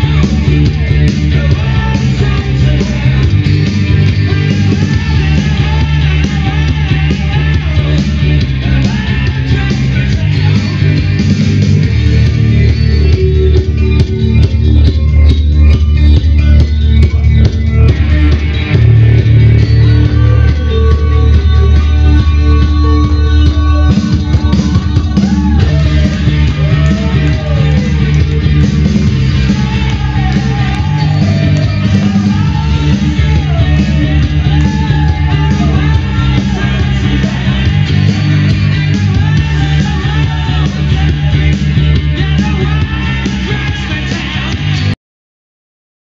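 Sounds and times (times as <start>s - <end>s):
person singing: 0.0s - 45.0s
rock song with heavy bass: 0.0s - 45.0s.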